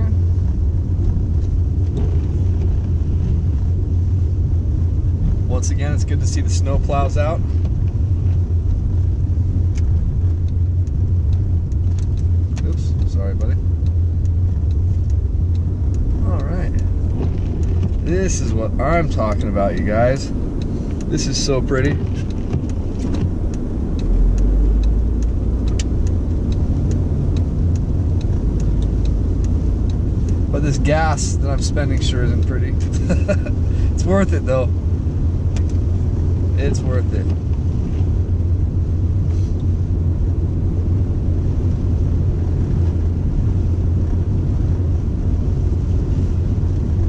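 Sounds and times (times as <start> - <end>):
car engine and road rumble: 0.0 - 47.0
light ticking: 0.1 - 47.0.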